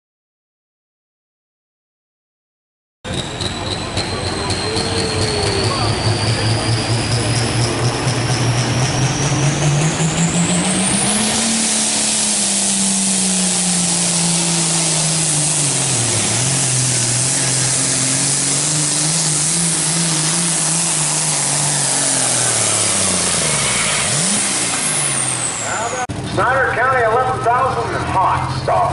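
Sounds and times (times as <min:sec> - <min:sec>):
diesel tractor engine at full throttle: 0:03.1 - 0:28.9
high engine whine: 0:03.1 - 0:28.9.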